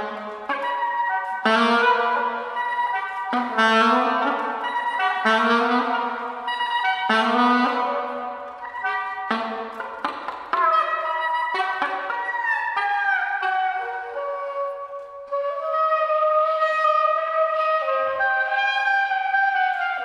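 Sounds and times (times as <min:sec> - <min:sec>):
jazz ensemble wind chords: 0:00.0 - 0:20.0.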